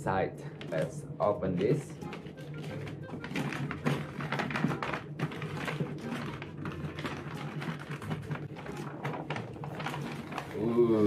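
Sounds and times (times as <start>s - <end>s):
plastic mailer bag crinkling: 0.5s - 11.0s.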